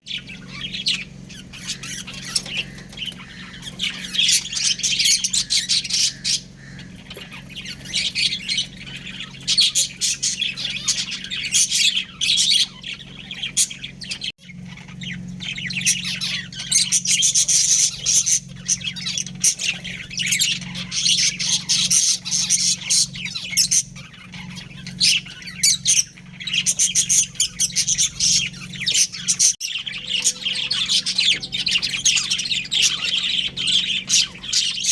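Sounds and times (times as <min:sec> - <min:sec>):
budgerigars chirping: 0:00.0 - 0:34.9
steady low hum: 0:00.0 - 0:34.9.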